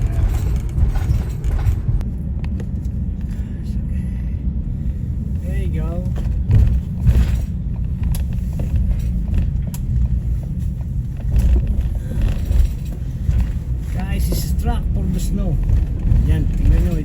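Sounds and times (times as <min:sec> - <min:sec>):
vehicle driving rumble: 0:00.0 - 0:17.0.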